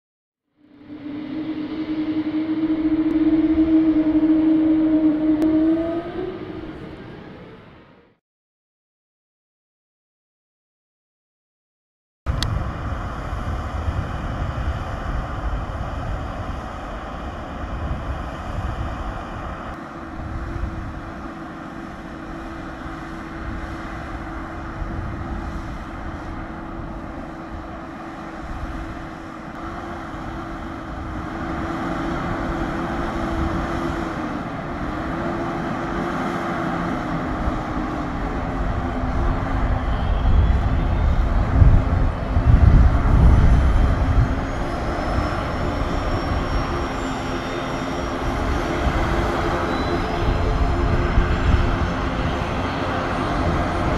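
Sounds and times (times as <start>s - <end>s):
turboprop engine and propeller drone: 0.5s - 8.2s, 12.3s - 53.9s
wavering hum: 0.5s - 8.2s, 12.3s - 53.9s.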